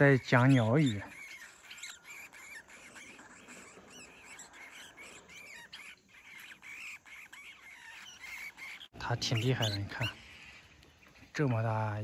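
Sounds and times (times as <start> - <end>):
birds calling soft chirps: 0.0 - 12.0.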